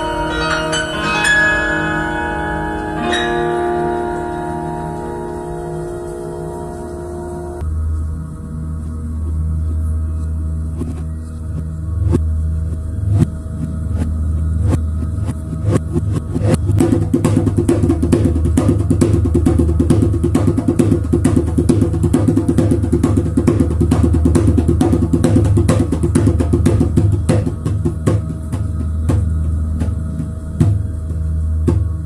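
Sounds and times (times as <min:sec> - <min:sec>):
hand drum: 0:00.0 - 0:07.6, 0:13.9 - 0:32.0
steady low hum: 0:00.0 - 0:32.0.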